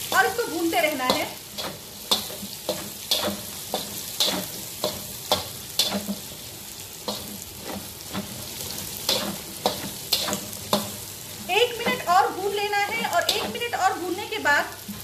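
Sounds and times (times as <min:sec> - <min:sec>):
metal spatula scraping pan: 0:00.0 - 0:14.0
meat and onion sizzling: 0:00.0 - 0:15.0.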